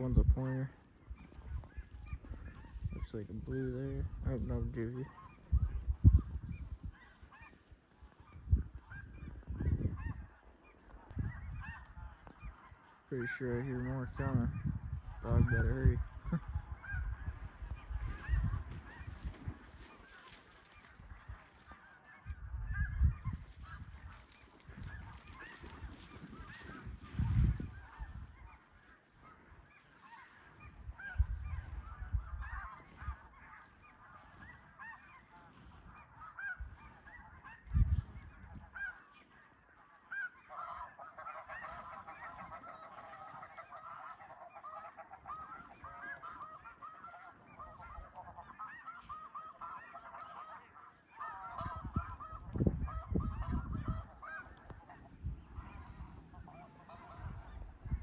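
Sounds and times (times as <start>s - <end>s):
geese honking: 0.0s - 58.0s.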